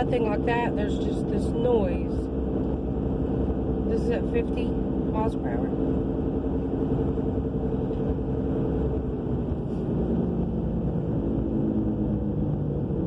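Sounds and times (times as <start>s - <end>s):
roaring drone from car: 0.0s - 13.0s.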